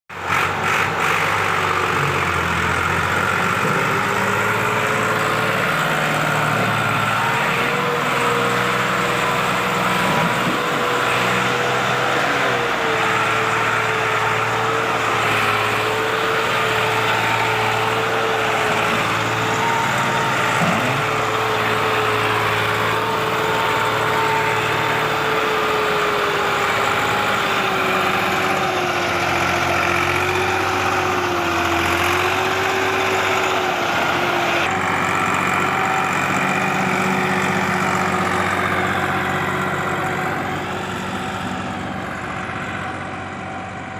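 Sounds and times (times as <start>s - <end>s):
tractor diesel engine running: 0.1s - 43.9s.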